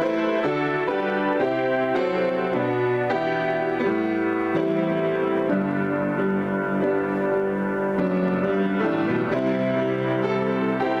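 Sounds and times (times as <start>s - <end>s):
grand piano improvisation: 0.0s - 11.0s.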